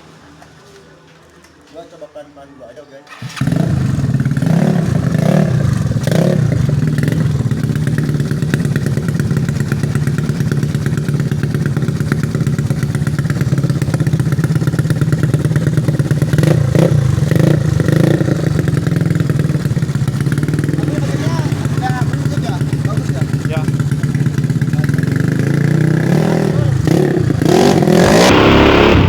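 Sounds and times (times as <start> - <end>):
scooter engine running loud: 3.2 - 29.0.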